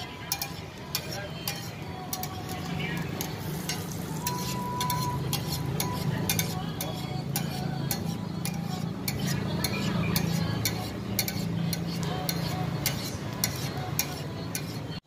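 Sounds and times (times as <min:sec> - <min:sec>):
burger patty frying in oil: 0:00.0 - 0:15.0
metal spatula scraping griddle: 0:00.0 - 0:15.0.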